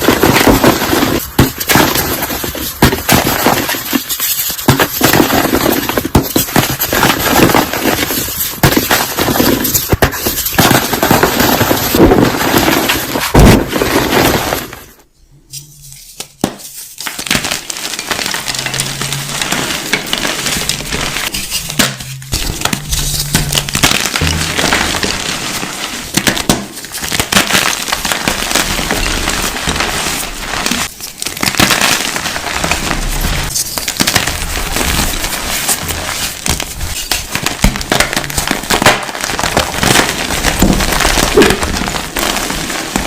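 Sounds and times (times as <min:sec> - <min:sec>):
crunching and crackling: 0:00.0 - 0:15.0, 0:16.6 - 0:43.0.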